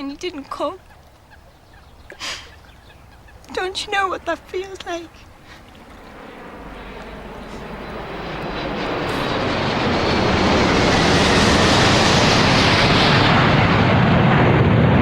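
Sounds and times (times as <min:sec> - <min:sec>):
aircraft engine: 0:01.1 - 0:15.0.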